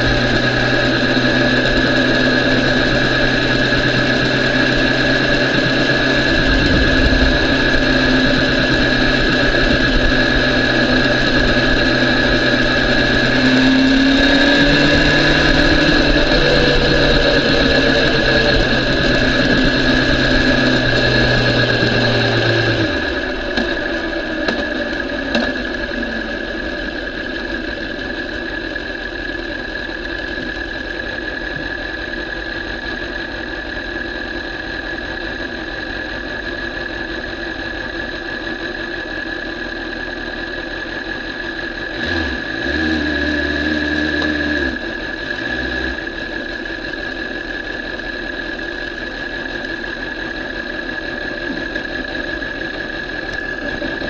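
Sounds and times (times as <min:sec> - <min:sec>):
constant high whine: 0:00.0 - 0:54.0
motorcycle engine running: 0:00.0 - 0:54.0.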